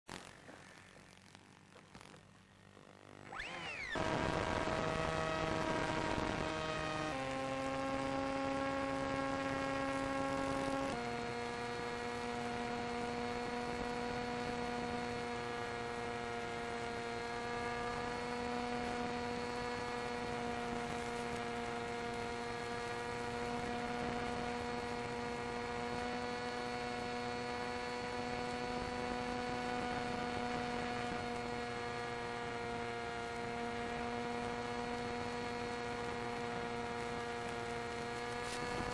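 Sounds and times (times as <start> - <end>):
model plane motor whine: 3.0 - 38.9.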